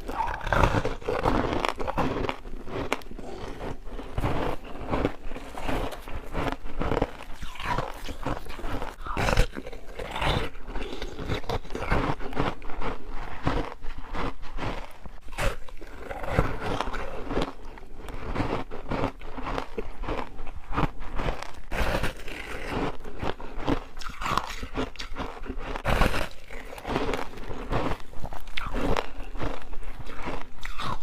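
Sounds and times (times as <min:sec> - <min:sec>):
person crunching icy frost: 0:00.0 - 0:31.0.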